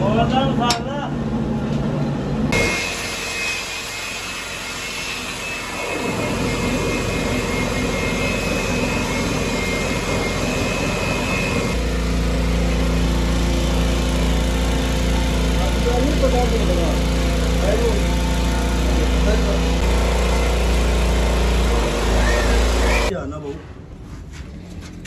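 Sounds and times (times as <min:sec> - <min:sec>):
factory machinery roar and whine: 0:00.0 - 0:23.1.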